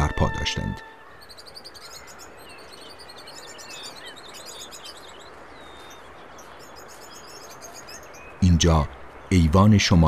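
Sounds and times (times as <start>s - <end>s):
faint steady hiss: 0.0s - 10.0s
small birds chirping: 0.0s - 10.0s.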